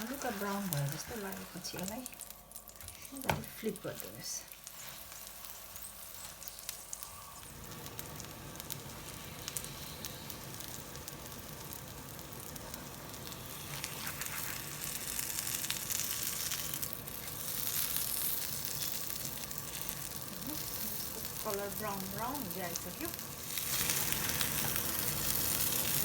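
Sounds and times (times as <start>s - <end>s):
flatbread sizzling in a pan: 0.0s - 26.0s.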